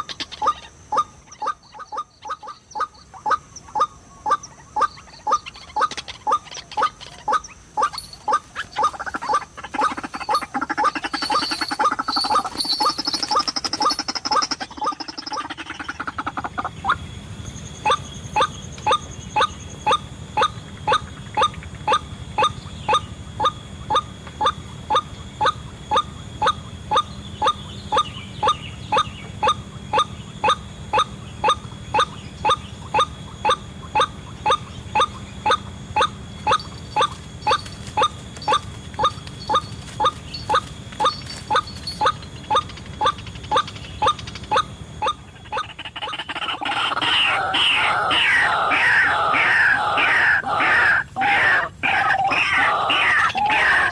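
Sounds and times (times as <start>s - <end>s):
waterhen calling: 0.0s - 17.0s, 18.4s - 53.9s.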